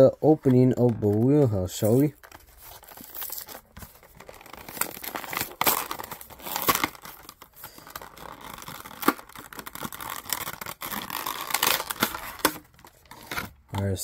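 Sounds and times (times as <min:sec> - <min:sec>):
plastic packaging crinkling and tearing: 0:00.0 - 0:14.0.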